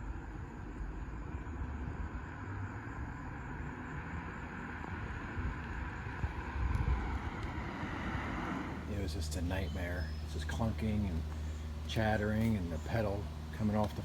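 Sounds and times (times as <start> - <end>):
car engine low rumble: 0.0 - 14.0.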